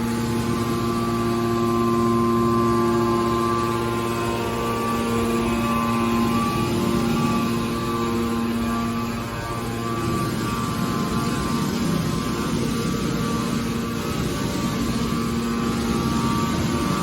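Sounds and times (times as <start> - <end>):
hydraulic baler humming: 0.0 - 17.0.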